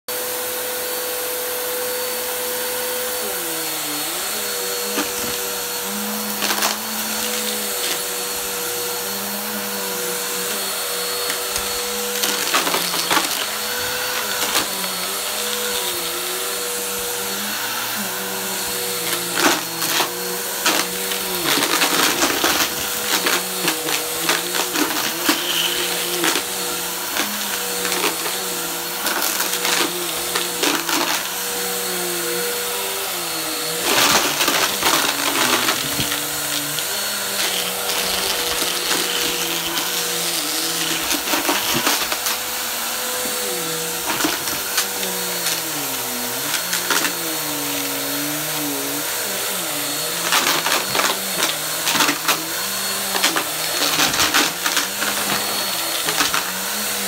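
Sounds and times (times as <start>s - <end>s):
vacuum cleaner running: 0.0s - 57.0s
debris rattling in vacuum: 3.7s - 57.0s.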